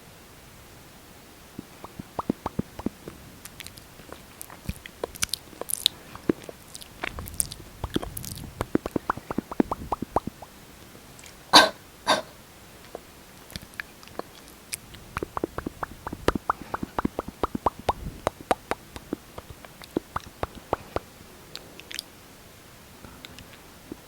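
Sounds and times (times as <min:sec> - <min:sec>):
lip smacking: 0:01.6 - 0:10.5, 0:11.2 - 0:22.1.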